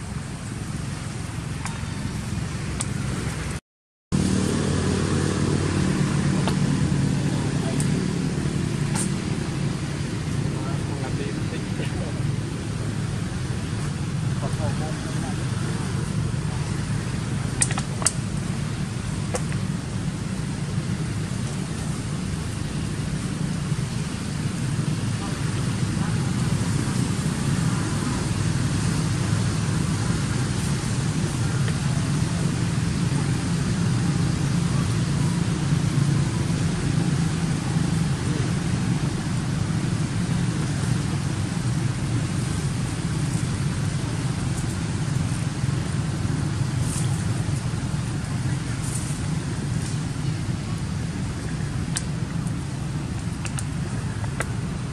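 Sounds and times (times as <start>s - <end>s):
low rumbling background noise: 0.0s - 3.6s, 4.2s - 54.9s.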